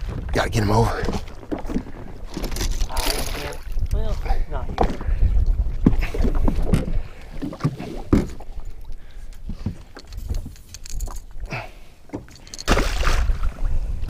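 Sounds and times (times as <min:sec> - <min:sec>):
wind rumbling on microphone: 0:00.0 - 0:11.4, 0:13.0 - 0:14.0.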